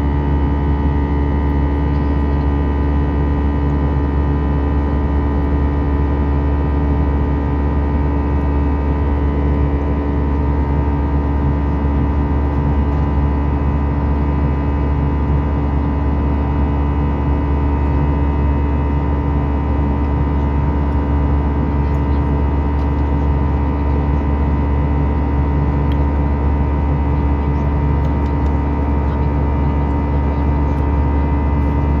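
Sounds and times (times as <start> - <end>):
airplane cabin engine drone: 0.0 - 32.0.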